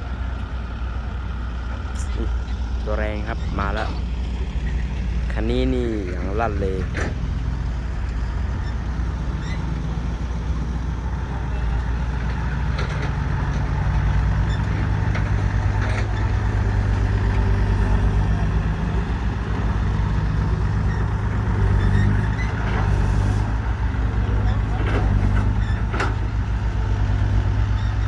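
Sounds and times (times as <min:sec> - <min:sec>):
diesel truck engine drone: 0:00.0 - 0:28.0.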